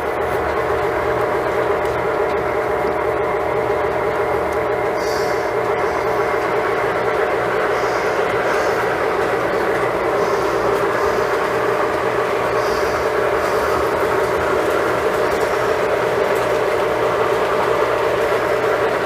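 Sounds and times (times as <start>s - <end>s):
model train motor whir: 0.0s - 19.0s
wheels rumbling on track: 0.0s - 19.0s.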